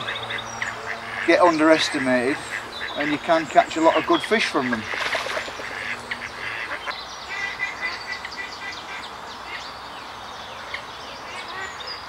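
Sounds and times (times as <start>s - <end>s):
small birds singing and chirping: 0.0s - 12.0s.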